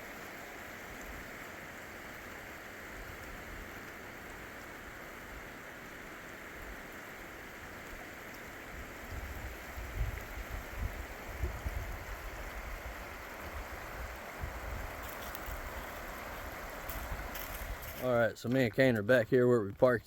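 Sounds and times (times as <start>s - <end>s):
river water running: 0.0s - 20.0s.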